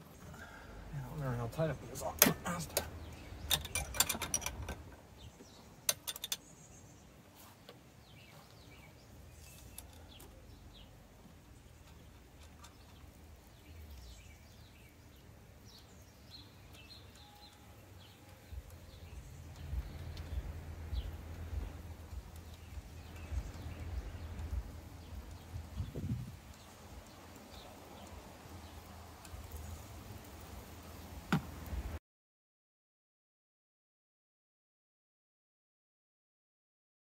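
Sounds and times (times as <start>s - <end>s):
faint birds chirping: 0.0s - 32.0s.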